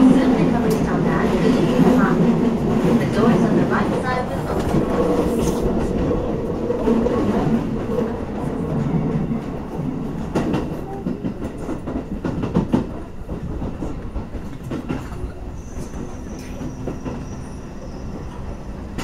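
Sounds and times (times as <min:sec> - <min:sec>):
train wheels clacking on rails: 0:00.0 - 0:19.0.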